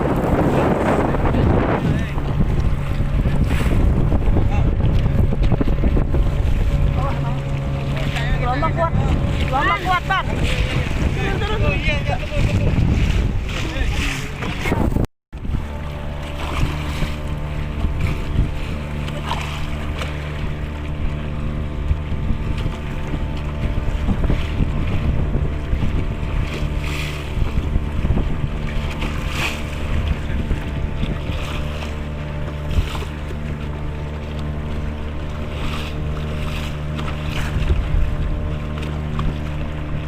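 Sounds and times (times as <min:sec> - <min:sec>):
boat engine droning: 0:00.0 - 0:40.0
water noise: 0:00.0 - 0:40.0
wind buffeting microphone: 0:00.0 - 0:40.0.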